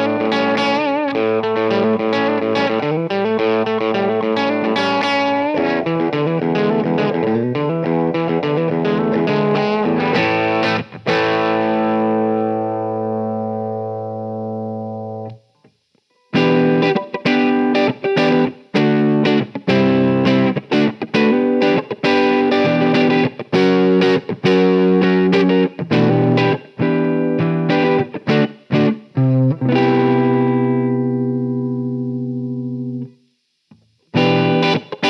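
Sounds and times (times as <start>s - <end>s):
electric guitar chords: 0.0s - 35.0s.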